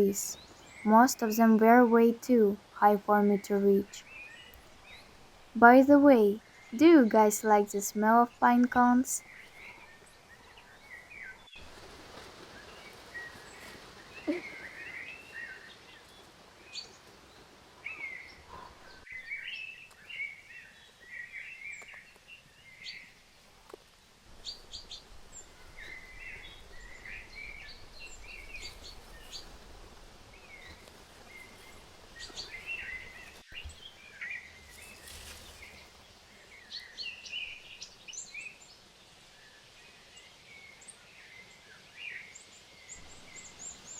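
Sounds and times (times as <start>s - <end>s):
faint forest hiss: 0.0s - 43.9s.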